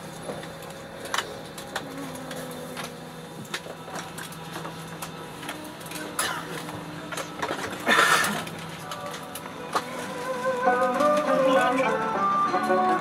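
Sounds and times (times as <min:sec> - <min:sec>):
low cabin hum: 0:00.0 - 0:13.0.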